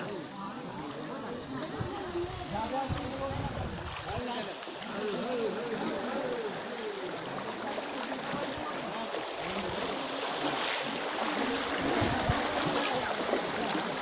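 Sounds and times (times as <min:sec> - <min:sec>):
distant voices: 0:00.0 - 0:14.0
rushing floodwater: 0:00.0 - 0:14.0.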